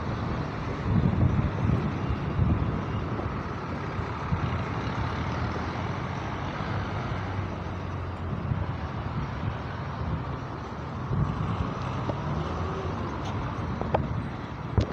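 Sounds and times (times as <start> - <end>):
passing vehicle engines rumbling: 0.0 - 14.9.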